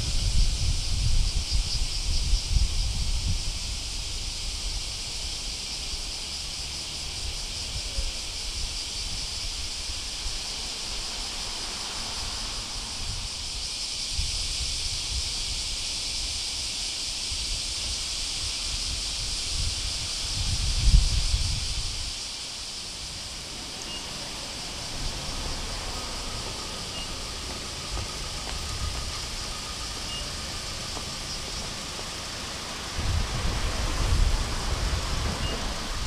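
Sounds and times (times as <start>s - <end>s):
wind buffeting microphone: 0.0s - 5.6s, 7.4s - 36.0s
steady high-pitched hiss: 0.0s - 36.0s.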